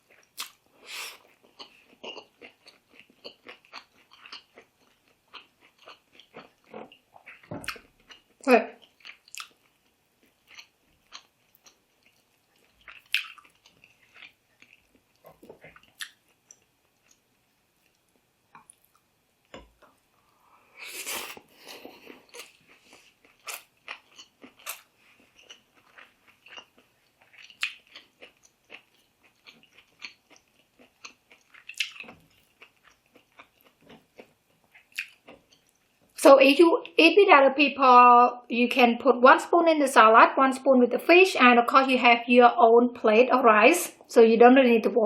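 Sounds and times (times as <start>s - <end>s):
chewing and crunching food: 0.0s - 36.2s.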